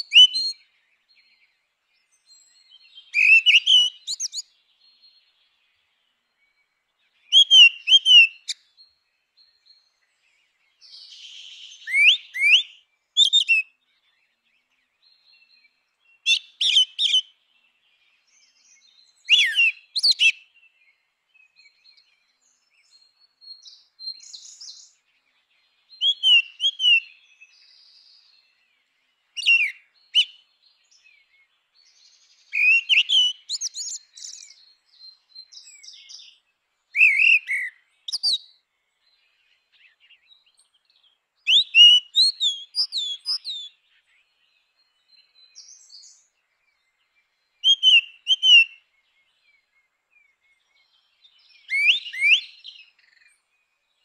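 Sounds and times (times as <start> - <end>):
blackbird singing: 0.0 - 54.0.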